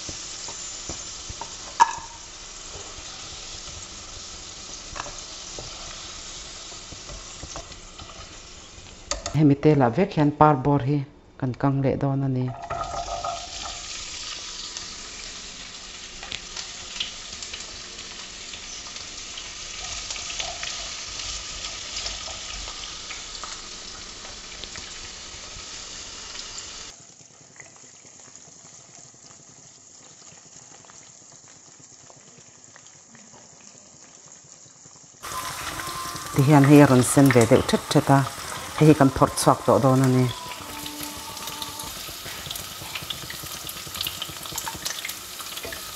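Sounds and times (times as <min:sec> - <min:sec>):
vegetables sizzling in hot oil: 0:00.0 - 0:09.4, 0:12.6 - 0:45.9.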